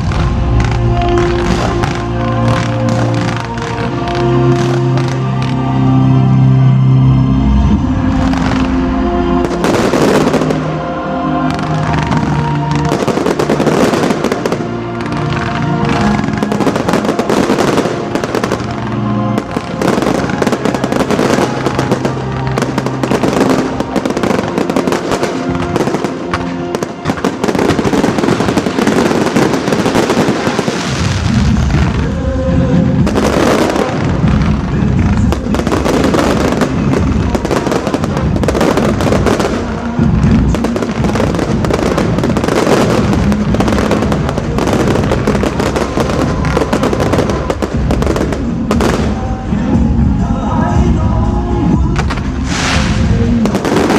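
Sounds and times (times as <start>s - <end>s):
fireworks popping and crackling: 0.0s - 5.8s, 8.1s - 50.2s, 51.6s - 53.9s
loud music: 0.0s - 53.9s.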